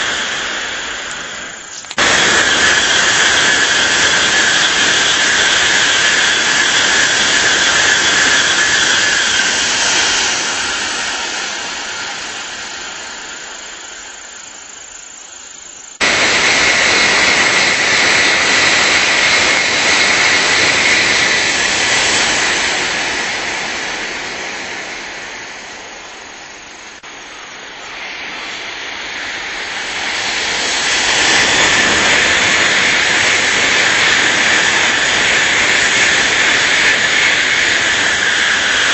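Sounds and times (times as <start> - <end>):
high-speed trains passing: 0.0 - 38.9.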